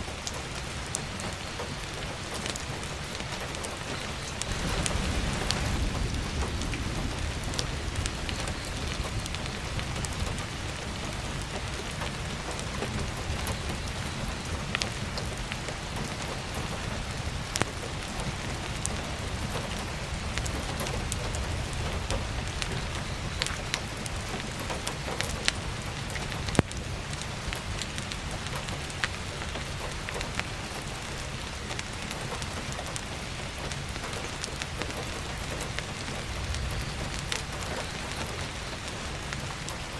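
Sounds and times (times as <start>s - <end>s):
heavy rain on a roof: 0.0s - 39.9s
firewood crackling and popping: 0.1s - 39.9s.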